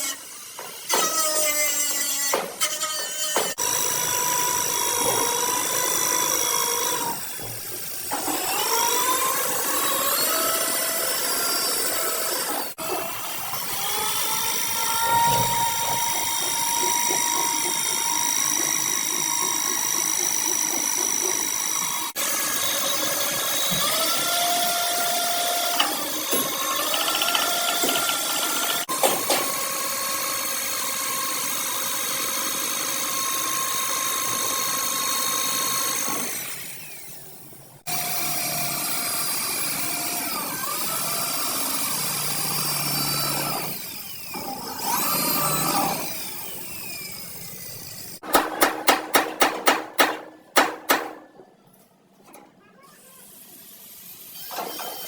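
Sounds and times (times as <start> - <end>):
electric power tool whining: 0.0 - 37.2, 37.8 - 48.2.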